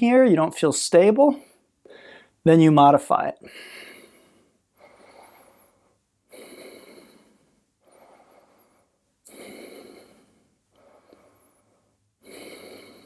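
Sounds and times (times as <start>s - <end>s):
person breathing deeply: 1.4s - 2.4s, 3.4s - 13.0s.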